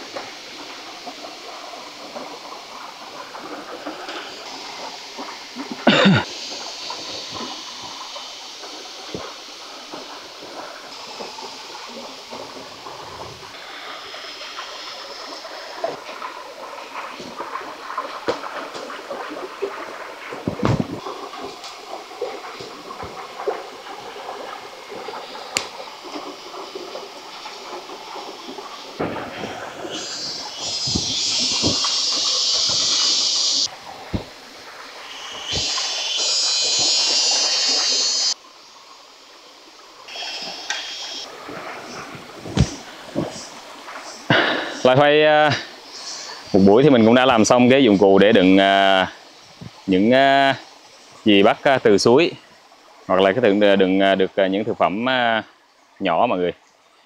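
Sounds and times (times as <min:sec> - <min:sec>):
flowing stream water: 0:00.0 - 0:57.0.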